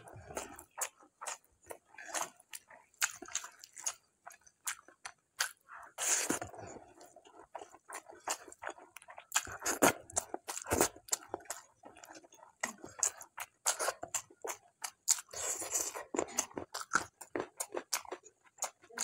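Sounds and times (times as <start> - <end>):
chewing and lip smacks: 0.1 - 19.0.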